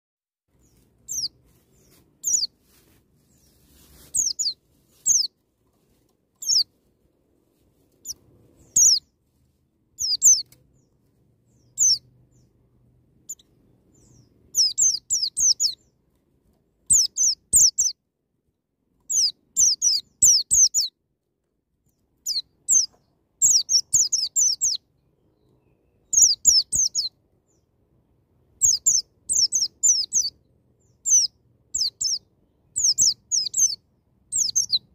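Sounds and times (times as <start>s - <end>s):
bird chirping: 0.5s - 6.8s, 7.8s - 9.2s, 9.9s - 16.1s, 16.8s - 18.0s, 19.0s - 21.0s, 21.8s - 34.9s.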